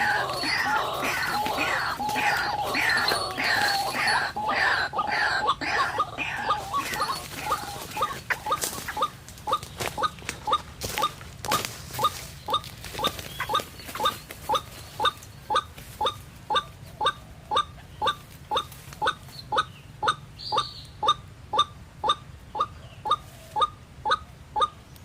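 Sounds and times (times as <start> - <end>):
waterhen call: 0.0 - 24.9.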